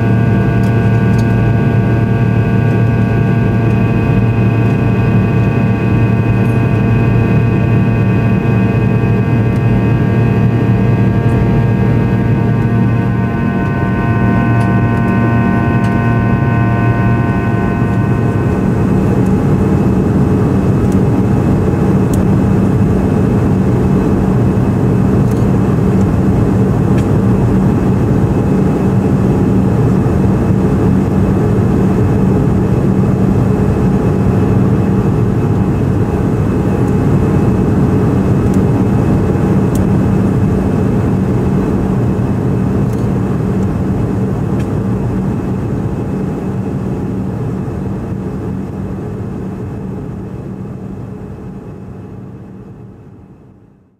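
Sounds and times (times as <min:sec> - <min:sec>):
jet cabin drone: 0:00.0 - 0:53.9.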